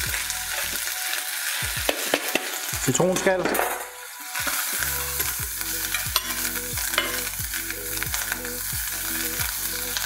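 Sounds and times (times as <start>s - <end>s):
greens sizzling in butter: 0.0s - 10.0s.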